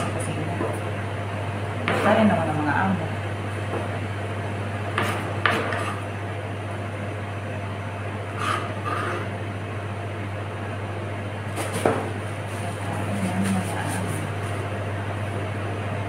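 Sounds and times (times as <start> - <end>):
kitchen machinery hum: 0.0 - 16.0.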